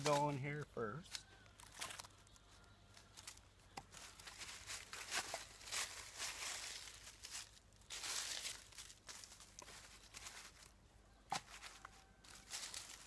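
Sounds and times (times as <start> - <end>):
dry sticks and leaves crackling: 0.0 - 13.0.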